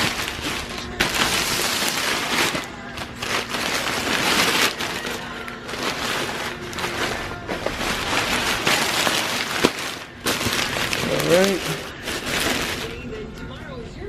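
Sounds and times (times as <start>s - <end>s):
fabric cover rustling: 0.0s - 13.2s
faint music: 0.0s - 14.0s.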